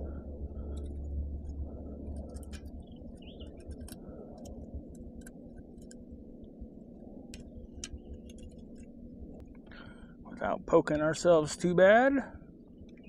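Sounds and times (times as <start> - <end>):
low rumble: 0.0 - 10.7.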